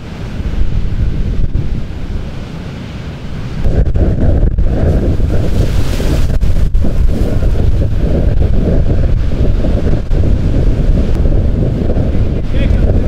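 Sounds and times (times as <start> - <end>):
waves crashing against rocks: 0.0 - 13.0
wind rumble on microphone: 0.0 - 13.0.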